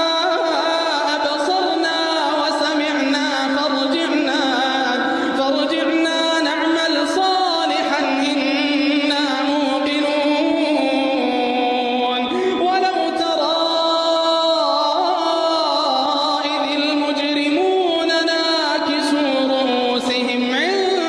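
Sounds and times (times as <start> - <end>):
person chanting melodically: 0.0 - 21.0.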